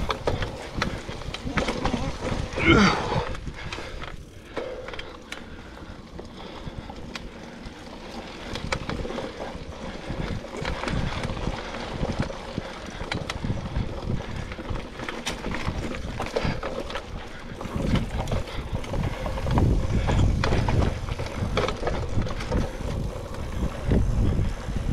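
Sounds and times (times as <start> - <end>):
wind buffeting microphone: 0.0 - 4.5, 5.5 - 24.9
bike knocking and rattling: 0.0 - 24.9
bike tyres rolling on dirt: 0.0 - 24.9.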